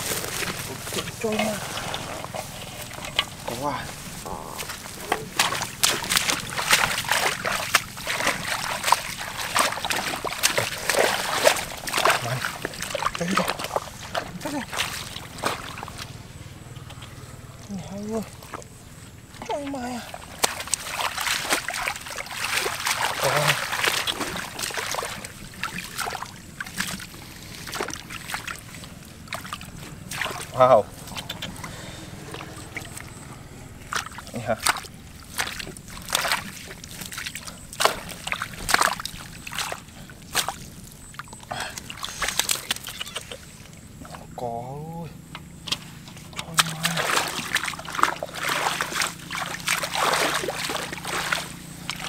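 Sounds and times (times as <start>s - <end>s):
shallow water splashing: 0.0s - 52.0s.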